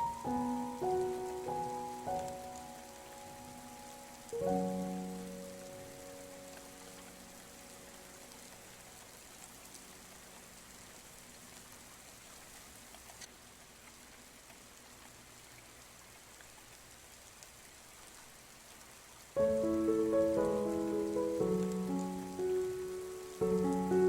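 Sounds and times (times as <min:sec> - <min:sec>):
light raindrop ticks: 0:00.0 - 0:24.0
soft rain hiss: 0:00.0 - 0:24.0.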